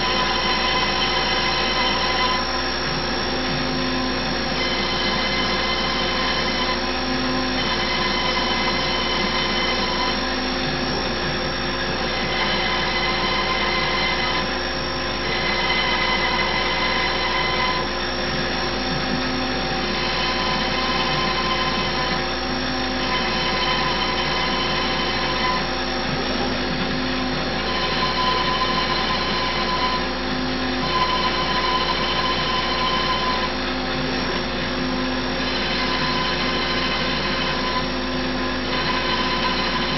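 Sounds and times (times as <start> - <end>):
machine whining tones: 0.0 - 39.9
router spindle running: 0.0 - 39.9.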